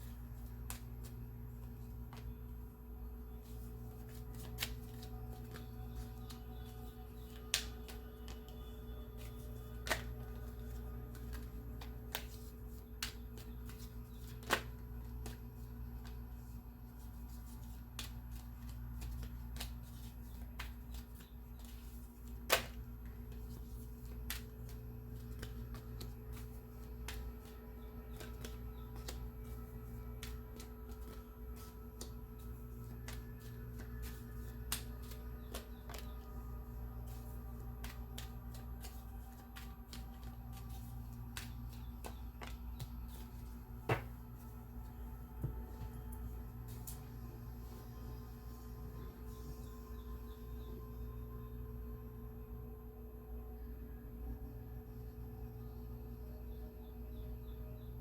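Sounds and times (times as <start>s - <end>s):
cards being shuffled: 0.0s - 47.1s
steady low hum: 0.0s - 58.0s.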